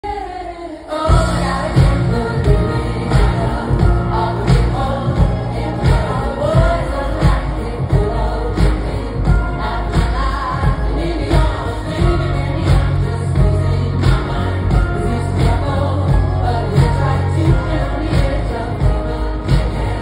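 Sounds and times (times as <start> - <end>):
live pop song through loudspeakers: 0.0 - 20.0
woman singing: 0.0 - 20.0.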